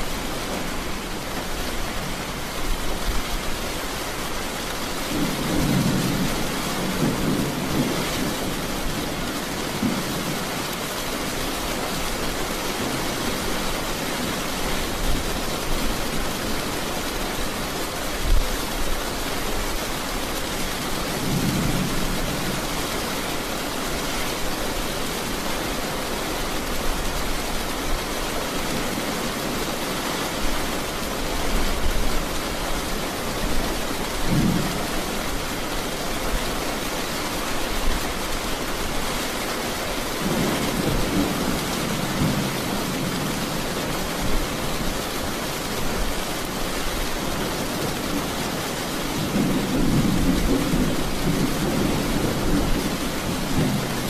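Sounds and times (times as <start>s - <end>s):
heavy steady rain: 0.0s - 54.0s.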